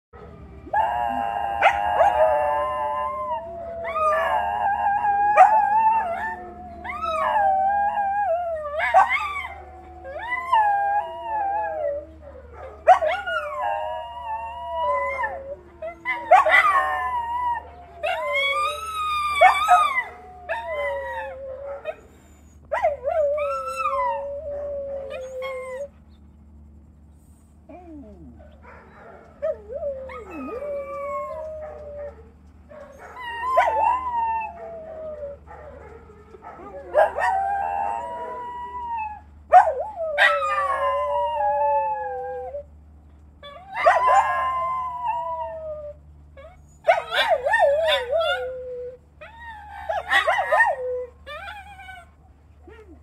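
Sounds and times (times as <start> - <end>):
small dogs howling: 0.2 - 53.0.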